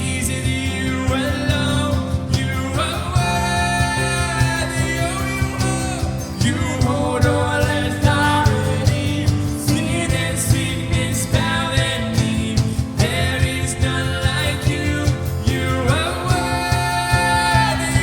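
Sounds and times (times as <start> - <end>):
guitar: 0.0 - 18.0
person singing: 0.0 - 18.0.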